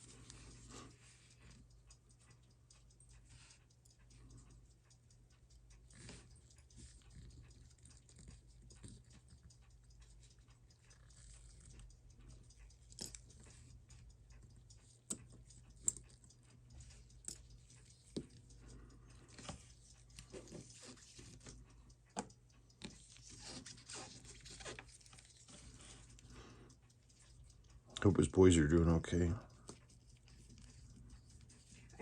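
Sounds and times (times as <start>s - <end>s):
small clicks and taps: 0.0s - 32.0s.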